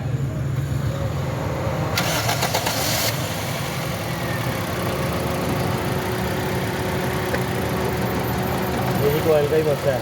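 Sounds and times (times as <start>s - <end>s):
car engine idling with misfire: 0.2s - 10.0s.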